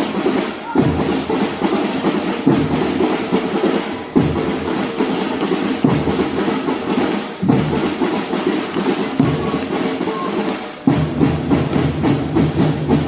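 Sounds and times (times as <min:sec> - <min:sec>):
samba percussion drumming: 0:00.0 - 0:13.0.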